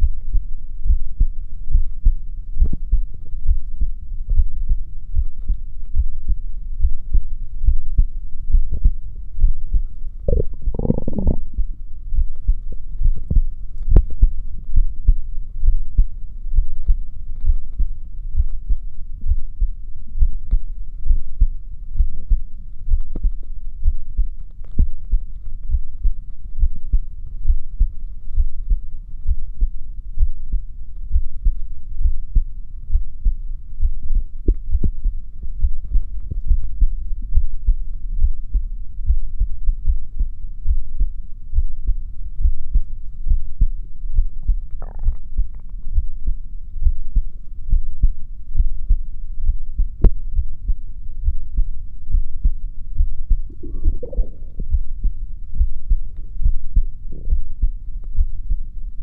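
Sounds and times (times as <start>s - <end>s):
heartbeat thuds: 0.0s - 59.0s.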